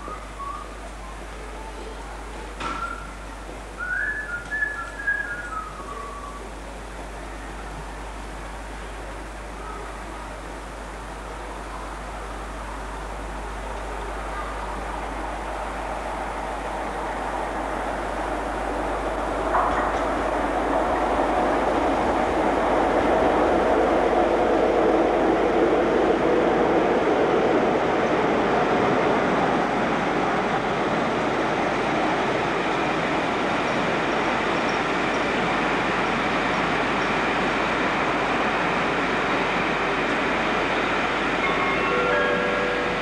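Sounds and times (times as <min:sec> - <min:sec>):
diesel locomotive engine: 0:00.0 - 0:43.0
train wheels rumbling on rails: 0:00.0 - 0:43.0.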